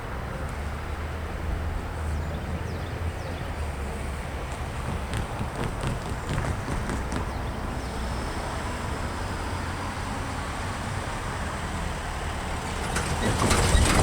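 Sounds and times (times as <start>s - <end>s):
low rumble of engines: 0.0s - 14.0s.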